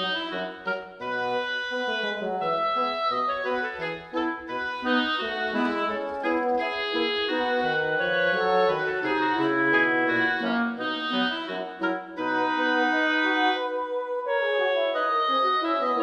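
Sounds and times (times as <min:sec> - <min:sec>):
sustained melody notes: 0:00.0 - 0:16.0.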